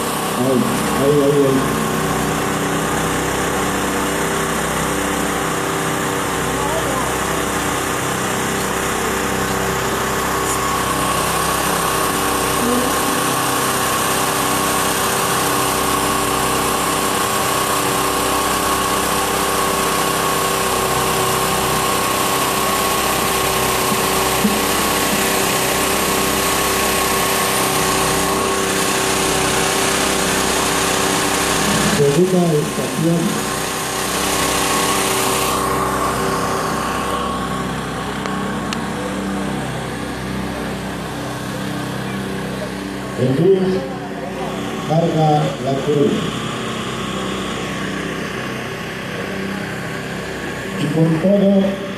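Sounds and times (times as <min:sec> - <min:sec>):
small engine droning: 0:00.0 - 0:51.9.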